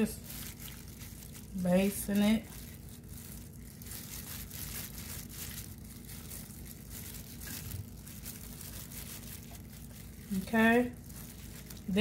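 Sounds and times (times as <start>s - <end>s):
foil pan crinkling: 0.0s - 12.0s.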